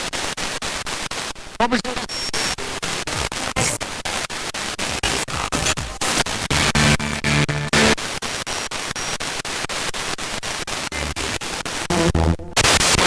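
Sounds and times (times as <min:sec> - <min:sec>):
radio static with clicks: 0:00.0 - 0:13.0
snatches of radio broadcast: 0:00.0 - 0:13.0.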